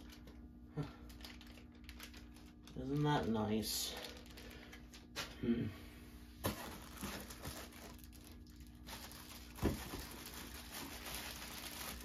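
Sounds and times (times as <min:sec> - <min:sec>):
plastic bag crinkling: 0:00.0 - 0:05.4, 0:06.4 - 0:12.0.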